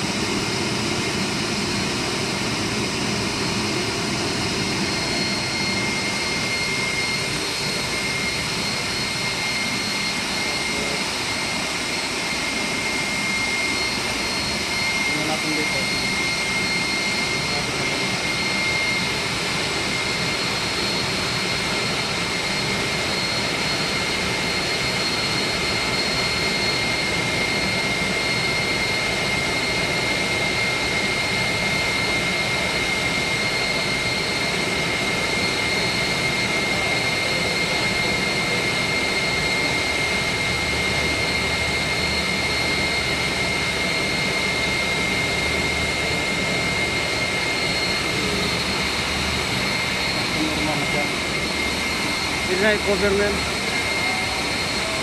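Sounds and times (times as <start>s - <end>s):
chiller machinery roar: 0.0s - 55.0s
high-pitched whine: 0.0s - 55.0s.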